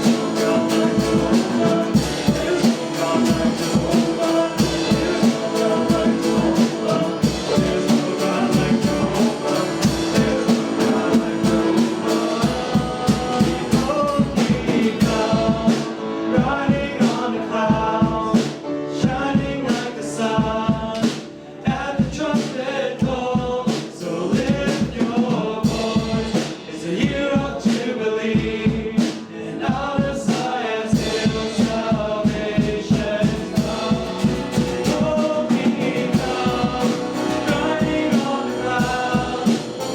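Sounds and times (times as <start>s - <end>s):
drum kit steady beat: 0.0s - 39.9s
voices singing gospel song: 0.0s - 39.9s.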